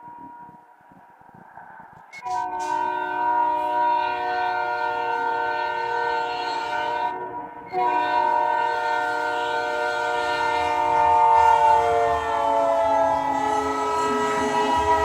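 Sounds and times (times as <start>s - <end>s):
low rumble of passing train: 0.0s - 15.0s
train air horn chord: 2.2s - 15.0s.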